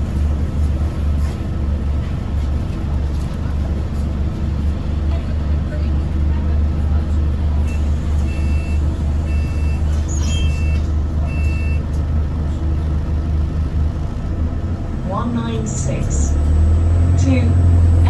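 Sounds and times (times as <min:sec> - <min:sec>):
bus engine drone: 0:00.0 - 0:18.0.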